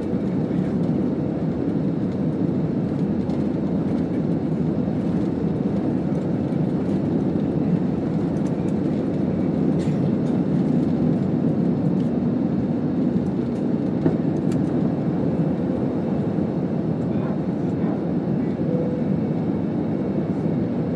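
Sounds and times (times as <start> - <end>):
airliner cabin engine rumble: 0.0 - 20.9.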